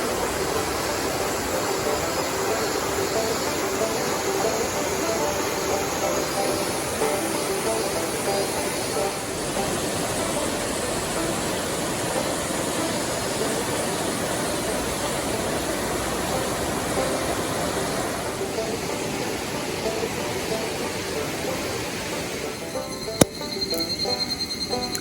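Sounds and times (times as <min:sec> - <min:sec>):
river flowing over stones: 0:00.0 - 0:25.0.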